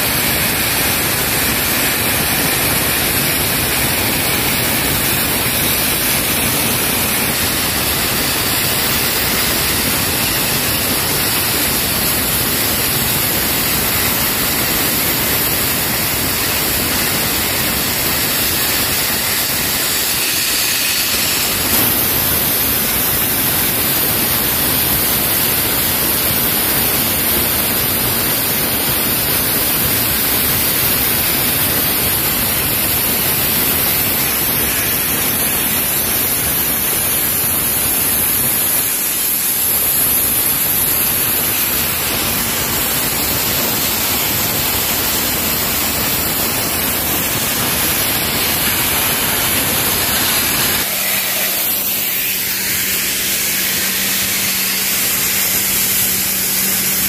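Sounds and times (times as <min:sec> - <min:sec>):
sandblasting nozzle hissing: 0:00.0 - 0:57.0.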